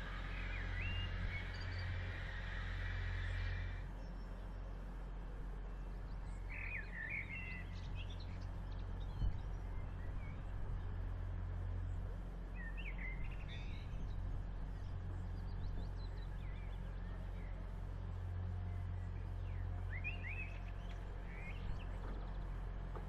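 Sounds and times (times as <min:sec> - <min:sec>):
birds chirping: 0:00.0 - 0:23.0
train engines idling: 0:00.0 - 0:23.0.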